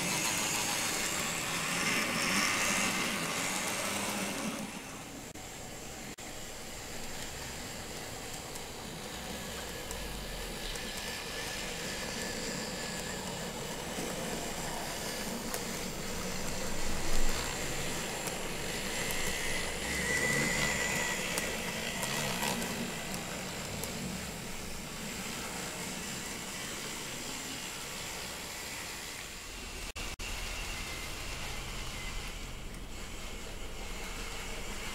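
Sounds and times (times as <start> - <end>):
model train running on track: 0.0 - 34.9.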